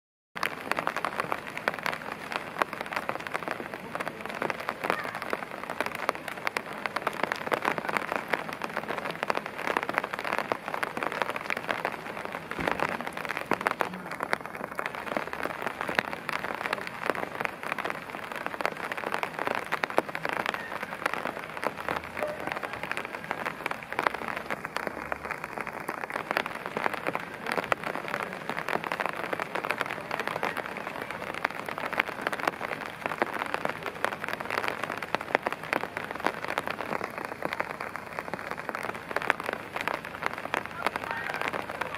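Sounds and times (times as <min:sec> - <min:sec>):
steady rain falling: 0:00.4 - 0:41.9.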